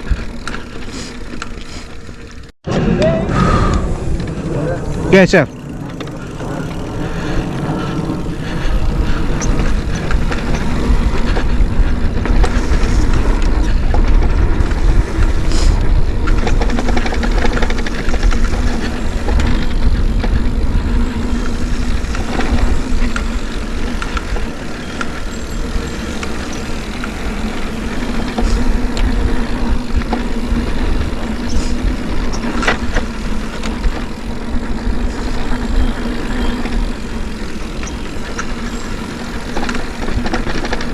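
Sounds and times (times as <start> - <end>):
bike clicks and rattles: 0.0 - 2.5, 3.8 - 40.9
mountain bike rumbling on dirt: 0.0 - 40.9.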